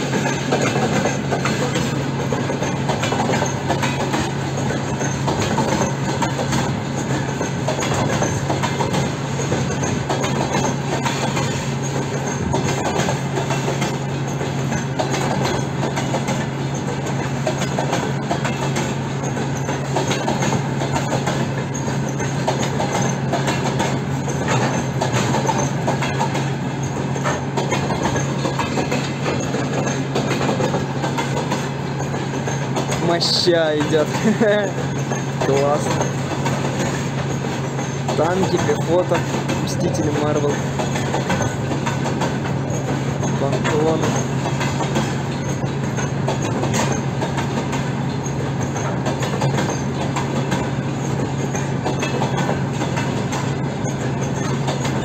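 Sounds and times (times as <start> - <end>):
clatter over rail joints: 0.0 - 55.0
steel wheels rumbling on rail: 0.0 - 55.0.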